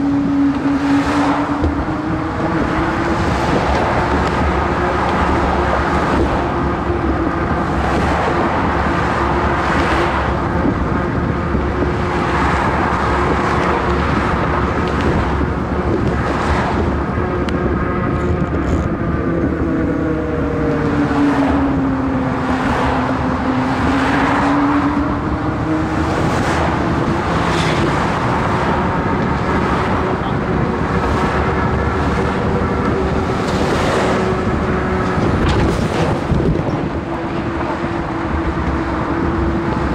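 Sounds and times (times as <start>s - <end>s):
road traffic passing close: 0.0s - 39.9s.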